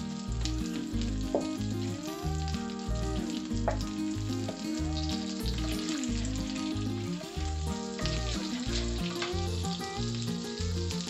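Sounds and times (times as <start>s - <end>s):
butter and oil sizzling: 0.0s - 11.0s.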